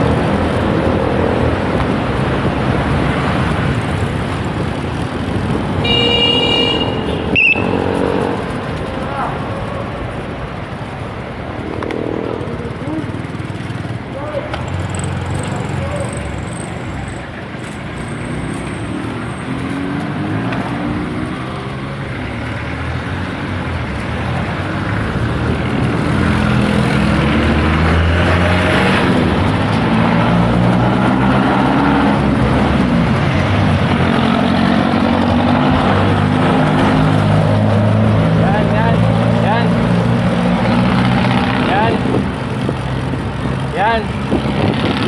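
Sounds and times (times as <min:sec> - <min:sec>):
vehicle engines running: 0:00.0 - 0:45.0.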